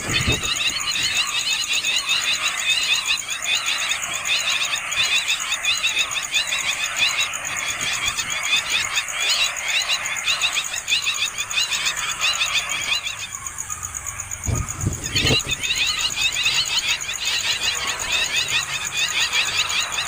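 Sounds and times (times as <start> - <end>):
nestling birds chirping: 0.0 - 20.0.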